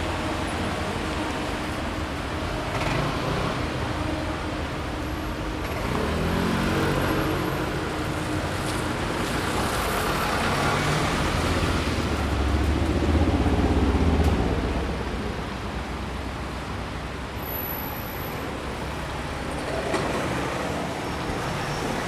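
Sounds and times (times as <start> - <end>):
city street traffic: 0.0 - 22.0
engine hum: 0.0 - 22.0.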